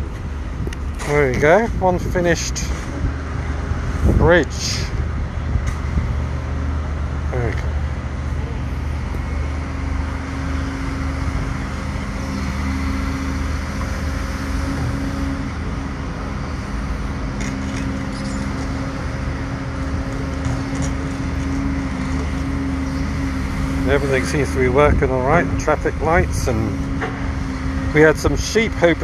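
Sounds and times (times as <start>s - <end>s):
constant low hum: 0.0s - 29.0s
road traffic noise: 0.0s - 29.0s.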